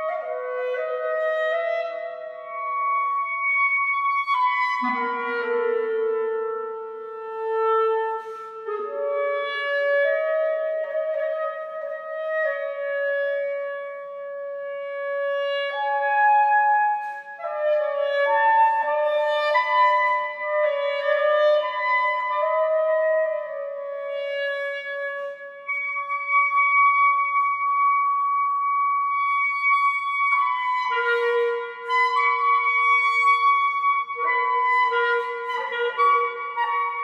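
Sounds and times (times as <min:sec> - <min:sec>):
clarinet playing long notes: 0:00.0 - 0:37.0.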